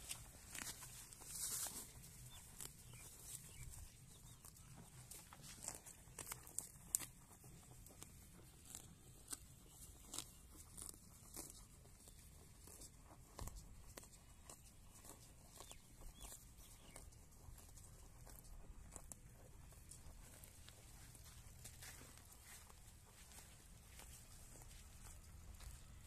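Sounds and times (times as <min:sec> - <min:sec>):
cow tearing grass: 0:00.0 - 0:26.0.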